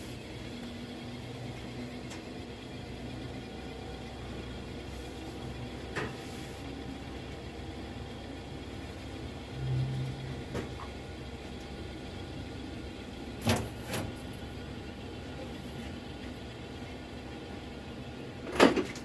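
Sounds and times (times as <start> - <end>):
boiler humming: 0.0 - 19.0.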